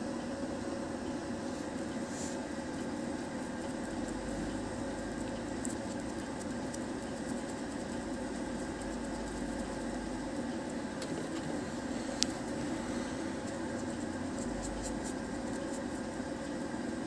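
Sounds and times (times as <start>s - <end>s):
workshop machinery hum: 0.0s - 17.0s
brush scratching: 2.0s - 16.1s.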